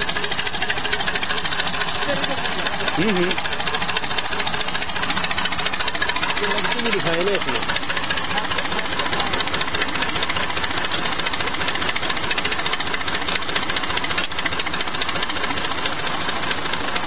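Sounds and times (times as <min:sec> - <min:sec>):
tractor diesel engine clattering: 0:00.0 - 0:17.0.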